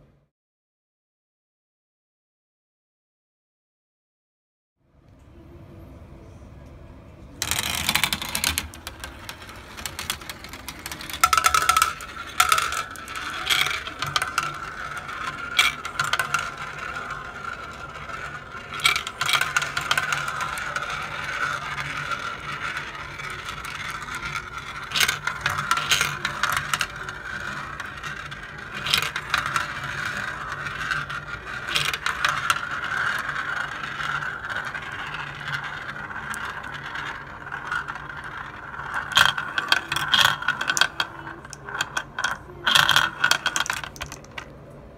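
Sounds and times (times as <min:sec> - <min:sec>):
marbles clicking together: 0:07.4 - 0:44.5
marbles rattling: 0:07.4 - 0:44.6
marbles rolling on plastic track: 0:07.4 - 0:44.6.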